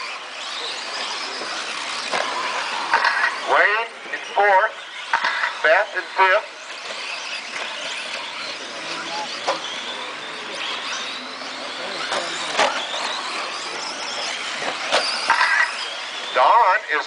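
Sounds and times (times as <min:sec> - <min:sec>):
high-pitched electric motor whines: 0:00.0 - 0:17.0.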